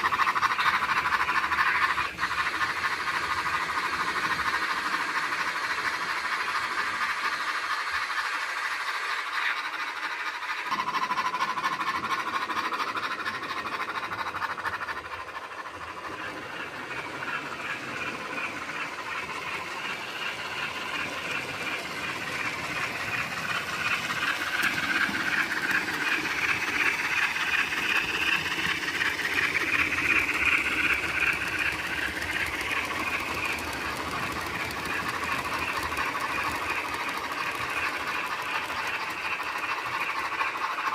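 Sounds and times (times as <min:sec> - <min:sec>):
model train steam chuffs: 0:00.0 - 0:40.9
model train wheels rattling: 0:00.0 - 0:40.9.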